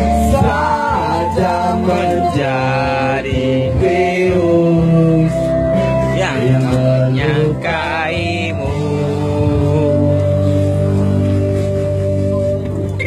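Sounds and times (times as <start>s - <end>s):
pop music: 0.0s - 10.8s
person singing into microphone: 0.0s - 13.0s.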